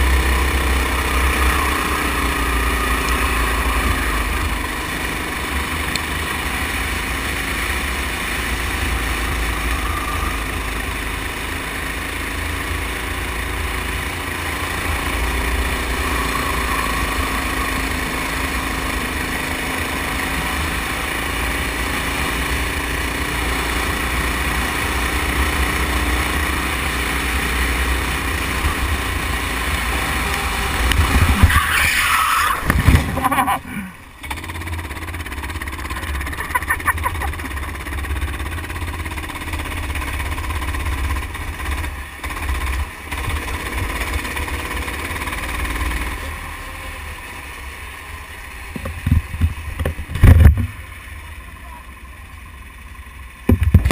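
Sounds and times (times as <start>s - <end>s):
go-kart engine running: 0.0s - 53.9s.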